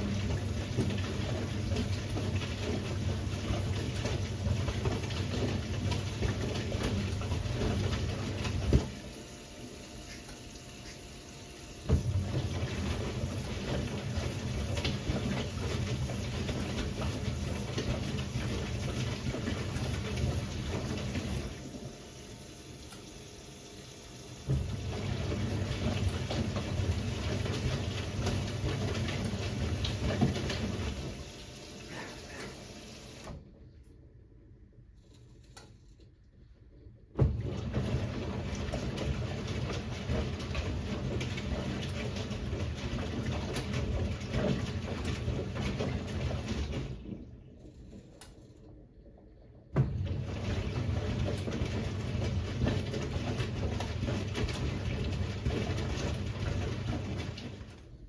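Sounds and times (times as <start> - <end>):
washing machine drum motor: 0.0 - 33.5, 37.1 - 47.5, 49.7 - 58.0.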